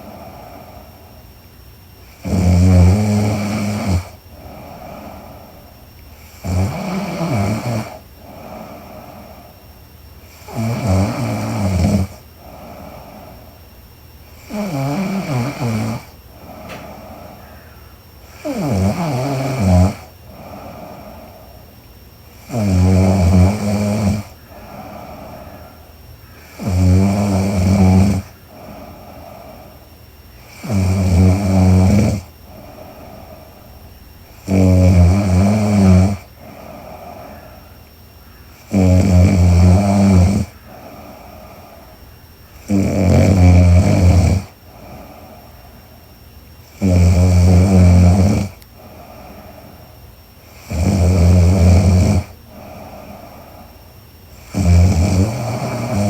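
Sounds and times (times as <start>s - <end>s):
quiet breathing: 0.0s - 56.0s
woman snoring: 2.0s - 9.6s, 10.2s - 13.6s, 14.4s - 17.6s, 18.2s - 21.6s, 22.3s - 29.8s, 30.4s - 37.6s, 38.6s - 41.9s, 42.6s - 45.5s, 46.7s - 49.8s, 50.5s - 53.7s, 54.3s - 56.0s.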